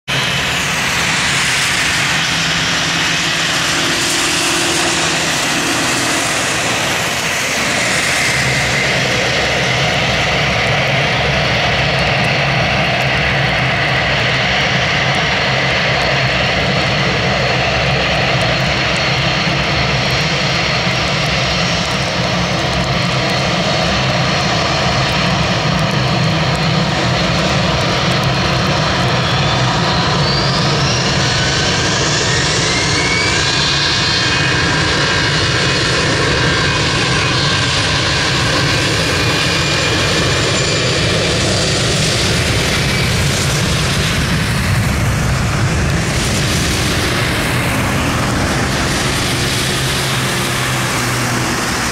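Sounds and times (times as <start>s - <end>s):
jet engines spooling up: 0.1s - 51.9s.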